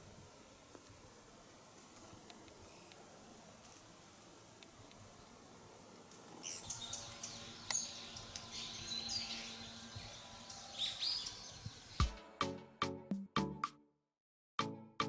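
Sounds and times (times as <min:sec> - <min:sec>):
songbirds chirping: 0:00.0 - 0:12.1.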